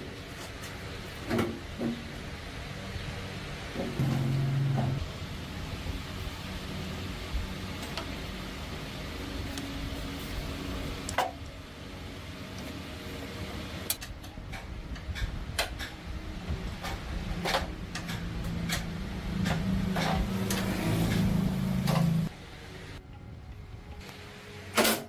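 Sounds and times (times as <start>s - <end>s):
low motor hum: 0.0s - 24.7s.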